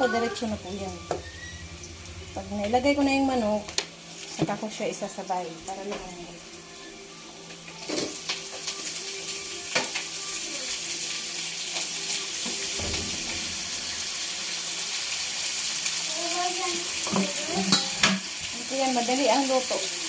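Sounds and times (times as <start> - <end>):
onion and garlic sizzling in oil: 0.0 - 20.0.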